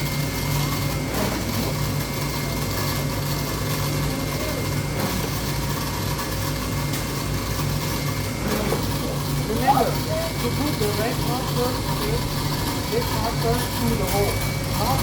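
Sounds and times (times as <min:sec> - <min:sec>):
factory machinery hum: 0:00.0 - 0:15.0.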